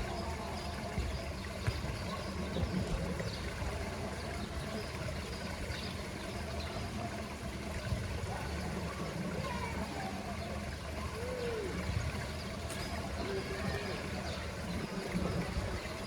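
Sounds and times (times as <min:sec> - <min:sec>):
pool water trickling: 0:00.0 - 0:16.0.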